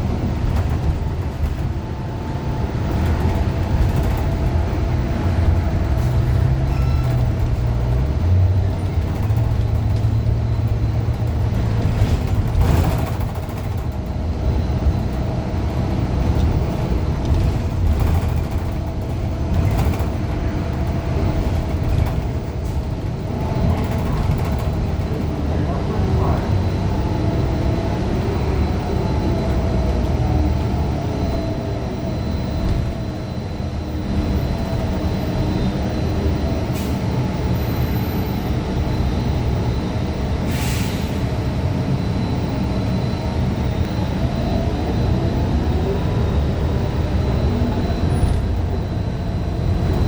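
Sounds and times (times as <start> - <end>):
bus engine drone: 0.0 - 50.0
transmission whine: 0.0 - 50.0.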